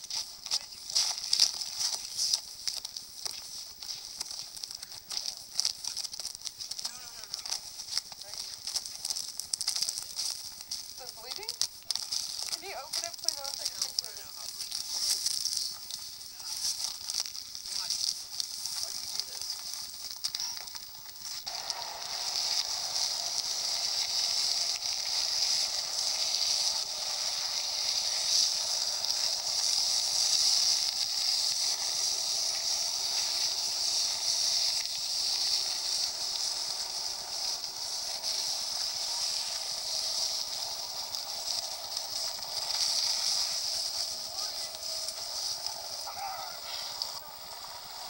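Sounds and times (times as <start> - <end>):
sled scraping over ice: 0.0 - 48.0.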